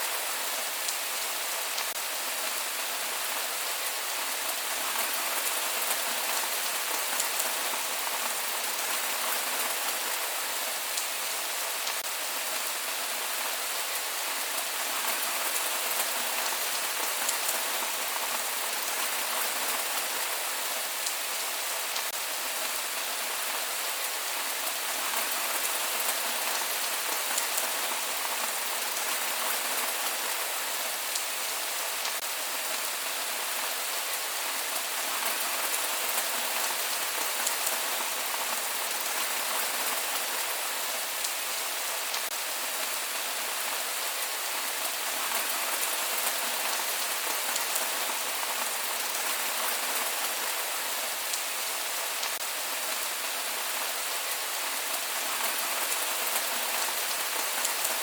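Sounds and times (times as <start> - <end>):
rain pattering: 0.1 - 58.0.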